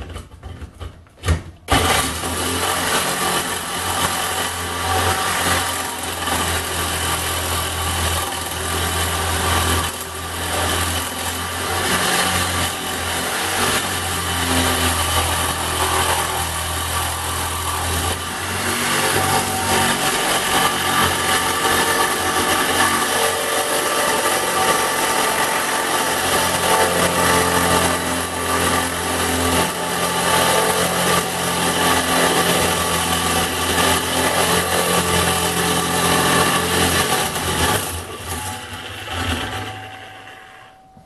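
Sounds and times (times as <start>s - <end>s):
reciprocating saw cutting metal: 1.7s - 41.0s.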